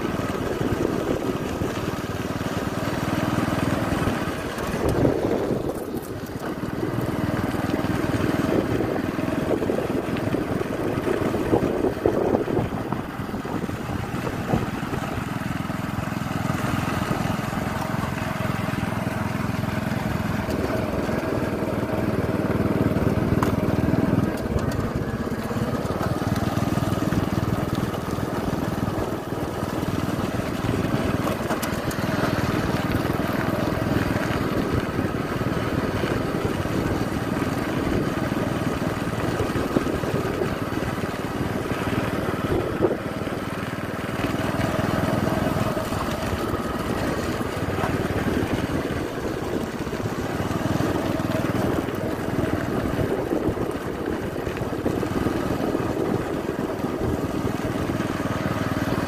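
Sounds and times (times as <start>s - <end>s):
small motorcycle engine running: 0.0s - 59.0s.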